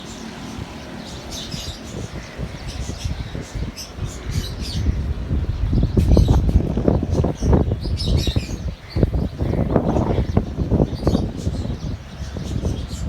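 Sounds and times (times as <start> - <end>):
small birds chirping: 0.0 - 13.0
wind buffeting microphone: 0.0 - 13.0.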